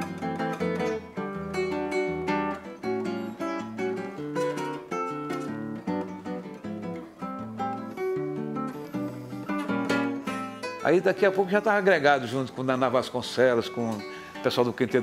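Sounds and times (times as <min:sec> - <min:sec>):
classical guitar bossa nova: 0:00.0 - 0:15.0.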